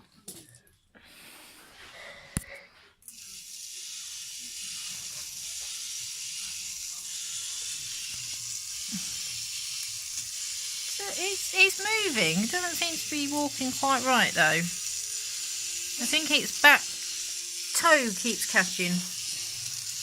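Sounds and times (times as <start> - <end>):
toy motor whirring: 3.0 - 20.0.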